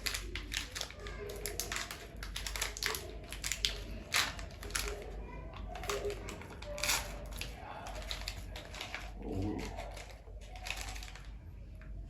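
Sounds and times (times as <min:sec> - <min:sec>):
plastic candy packet crinkling: 0:00.0 - 0:12.0.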